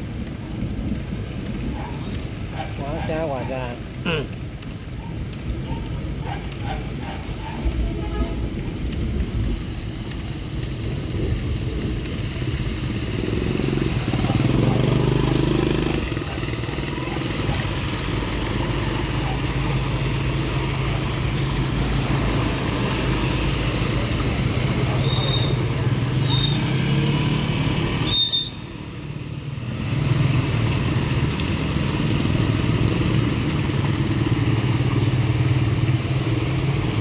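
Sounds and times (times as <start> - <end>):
water splashing from wheels: 0.0 - 37.0
motor scooter engines passing: 0.1 - 37.0.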